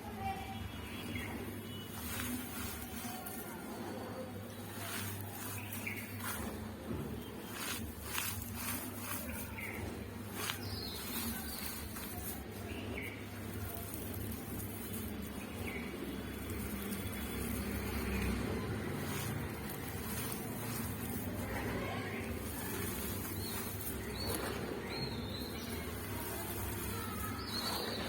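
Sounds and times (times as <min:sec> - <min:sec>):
charcoal powder crunching by hand: 0:00.4 - 0:28.0.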